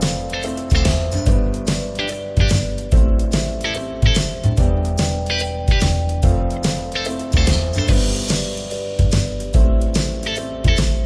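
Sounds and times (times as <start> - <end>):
plucked guitar: 0.0 - 11.0
steady bass beat: 0.0 - 11.0.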